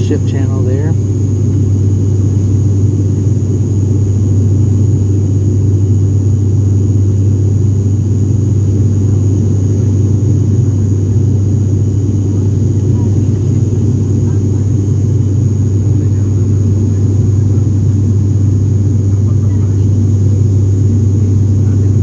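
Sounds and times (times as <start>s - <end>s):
high engine whine: 0.0s - 22.0s
jet engine drone in cabin: 0.0s - 22.0s.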